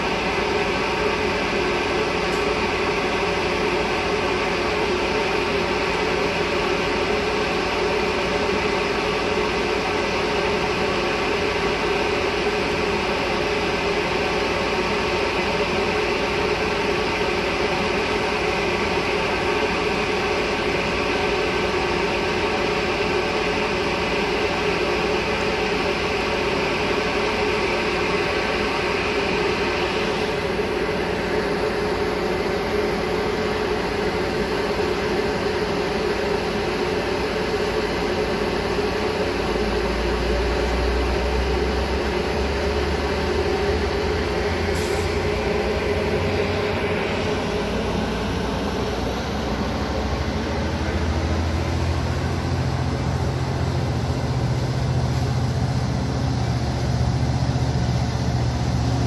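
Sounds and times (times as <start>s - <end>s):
diesel locomotive engine idling: 0.0s - 59.0s.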